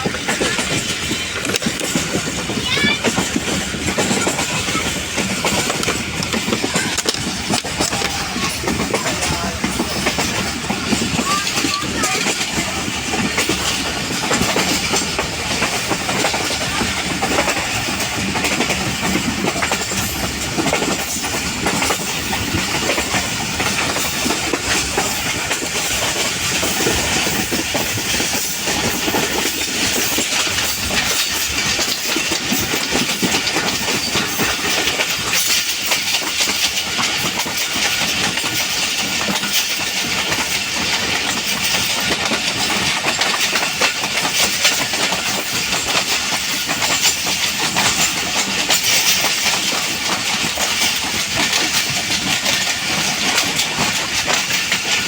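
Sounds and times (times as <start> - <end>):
train rolling rumble: 0.0 - 55.0
train wheels clattering: 0.0 - 55.0.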